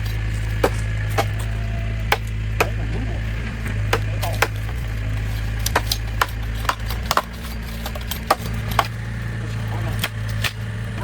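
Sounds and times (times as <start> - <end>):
sharp wooden knocks and cracks: 0.0 - 2.8, 3.6 - 9.0, 10.0 - 10.8
steady low hum: 0.0 - 11.0.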